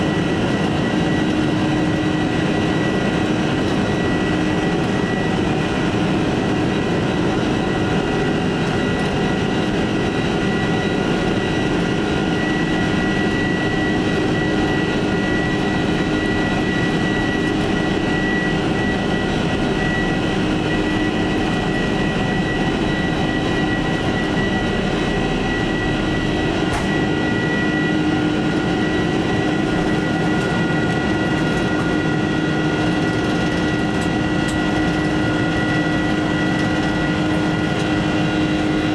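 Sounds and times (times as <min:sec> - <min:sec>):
jet engine and rolling noise: 0:00.0 - 0:38.9.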